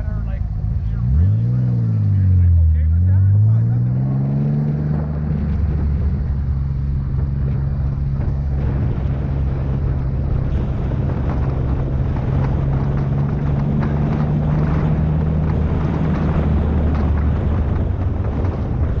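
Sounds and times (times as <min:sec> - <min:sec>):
car engine idling at low revs: 0:00.0 - 0:19.0.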